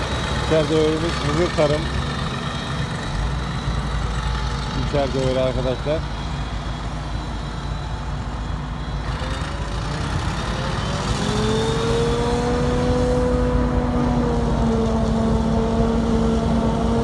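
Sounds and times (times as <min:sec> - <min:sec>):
harvester engine rumble: 0:00.0 - 0:17.0.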